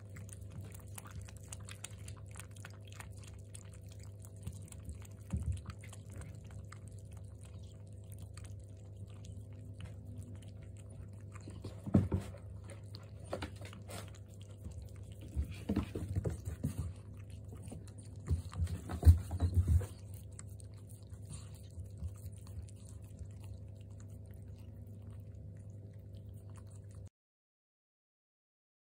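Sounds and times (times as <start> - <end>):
kittens lapping milk: 0.0 - 27.1
steady low hum: 0.0 - 27.1.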